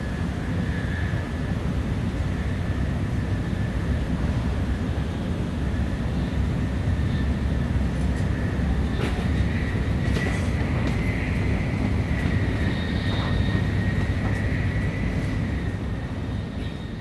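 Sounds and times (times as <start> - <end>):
faint high whine: 0.0 - 17.0
train running low rumble: 0.0 - 17.0.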